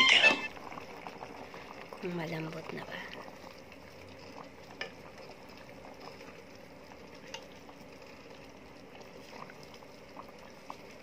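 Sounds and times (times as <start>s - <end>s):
pot simmering with bubbling: 0.0s - 11.0s.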